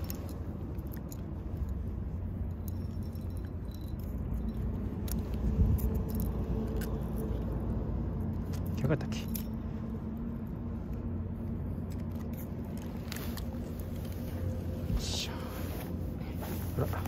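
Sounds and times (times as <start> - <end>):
metal grip clicking and rattling: 0.0 - 11.0, 11.8 - 14.6.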